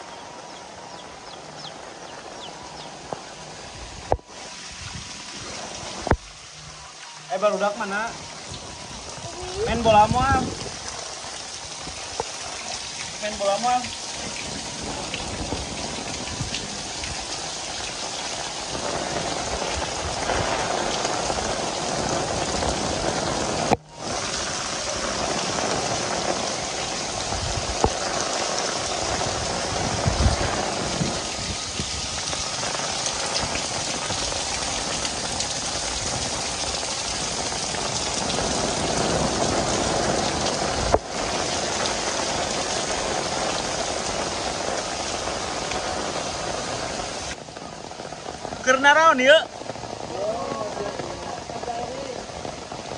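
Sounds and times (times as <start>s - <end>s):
heavy rain on roofs and pavement: 0.0s - 52.9s.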